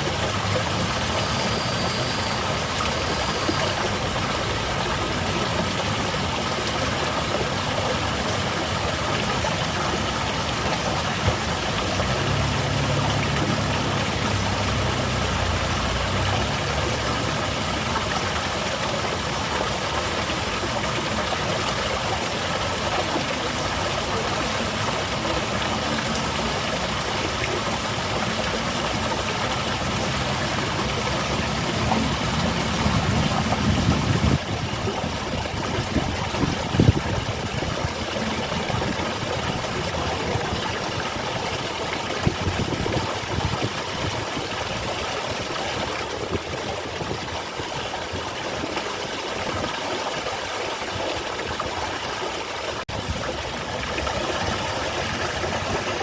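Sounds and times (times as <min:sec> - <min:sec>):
garden waterfall splashing: 0:00.0 - 0:56.0.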